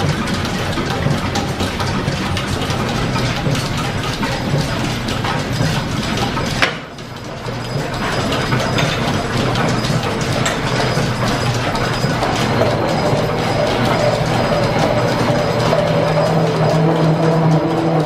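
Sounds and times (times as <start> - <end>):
low machinery hum: 0.0 - 18.0
machinery clattering: 0.0 - 18.0.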